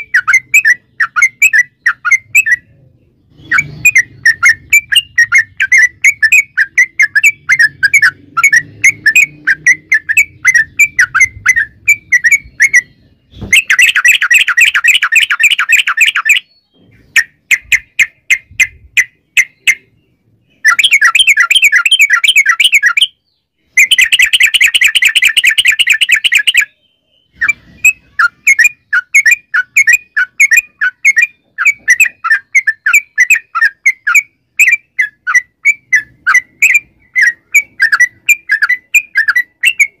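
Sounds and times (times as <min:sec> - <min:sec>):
bird rapid chattering: 0:00.0 - 0:02.7, 0:03.3 - 0:26.7, 0:27.4 - 0:40.0
bird singing bubbly notes: 0:00.0 - 0:40.0.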